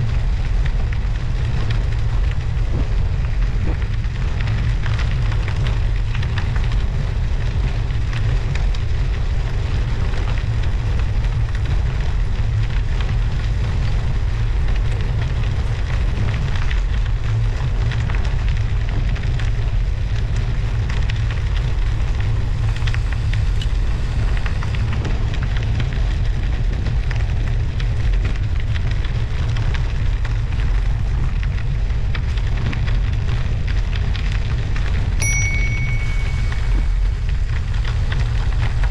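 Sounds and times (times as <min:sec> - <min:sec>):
wind buffeting microphone: 0:00.0 - 0:35.2
studded tyres crackling on snow: 0:00.0 - 0:38.9.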